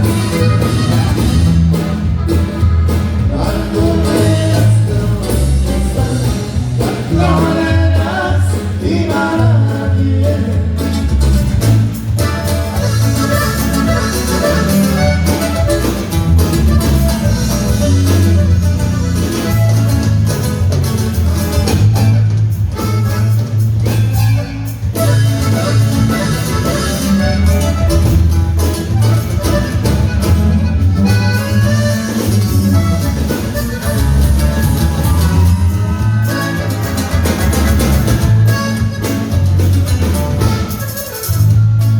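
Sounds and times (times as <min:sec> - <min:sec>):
norteno band music: 0:00.0 - 0:41.9
plucked guitar: 0:00.0 - 0:41.9
steady bass line: 0:00.0 - 0:41.9.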